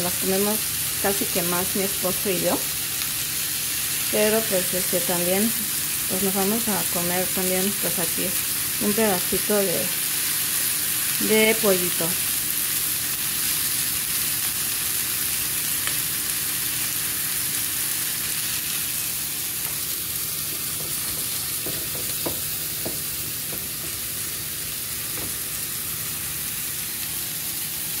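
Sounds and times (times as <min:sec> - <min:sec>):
food sizzling in pans: 0:00.0 - 0:28.0.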